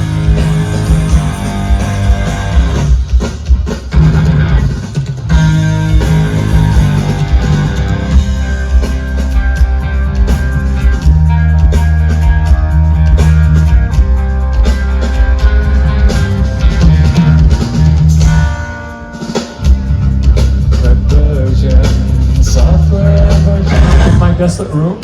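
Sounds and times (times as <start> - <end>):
heavy rock music: 0.0 - 25.0.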